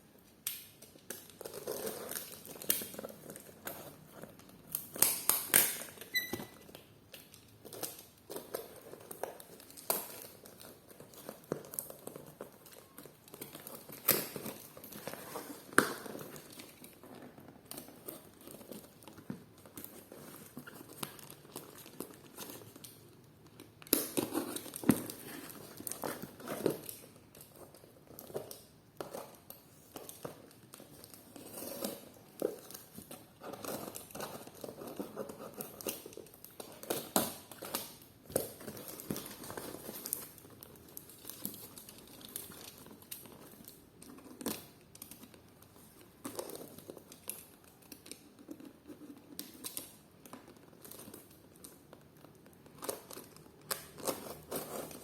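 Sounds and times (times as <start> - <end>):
packaging crinkling and rustling: 0.1 - 55.0.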